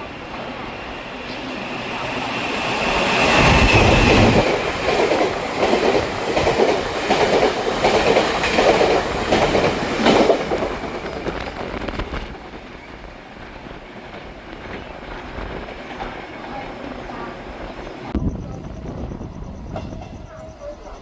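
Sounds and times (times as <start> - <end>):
train wheels clickety-clack: 0.0 - 21.0.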